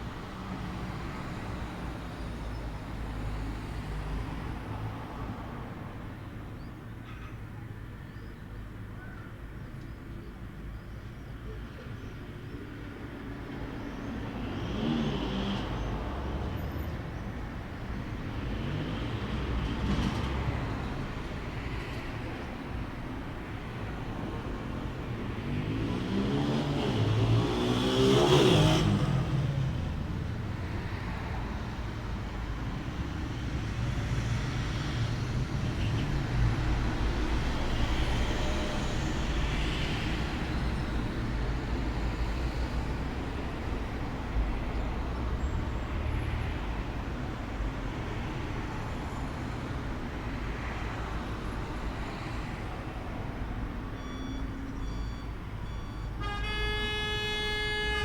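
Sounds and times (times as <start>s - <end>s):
low traffic rumble: 0.0s - 58.0s.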